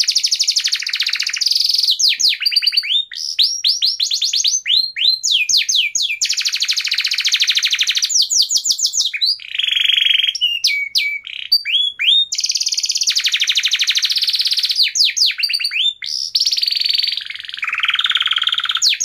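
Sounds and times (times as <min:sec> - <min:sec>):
songbird singing with trills: 0:00.0 - 0:19.0.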